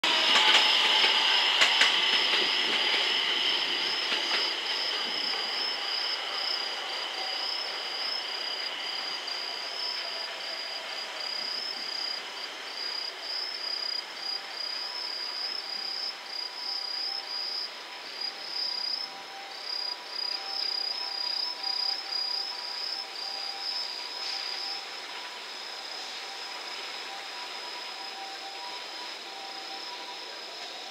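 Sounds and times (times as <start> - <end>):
train rail noise: 0.0 - 30.9
crickets chirping: 0.1 - 30.9.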